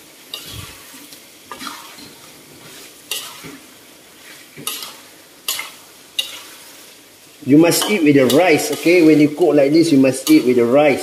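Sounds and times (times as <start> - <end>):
sizzle of frying: 0.0 - 11.0
metal spatula scraping wok: 0.3 - 7.0, 7.7 - 11.0.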